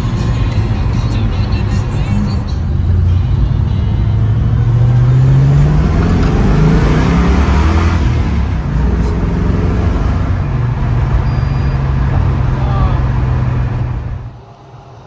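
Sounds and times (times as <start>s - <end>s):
car engine accelerating: 0.0s - 14.4s.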